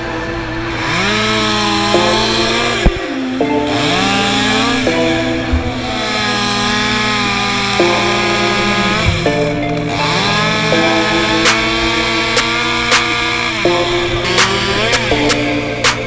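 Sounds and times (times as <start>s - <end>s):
chainsaw revving and cutting wood: 0.0s - 16.0s
music: 0.0s - 16.0s.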